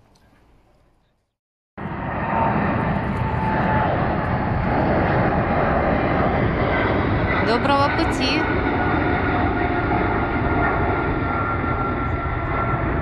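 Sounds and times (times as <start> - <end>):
jet airliner flying overhead: 1.8 - 13.0.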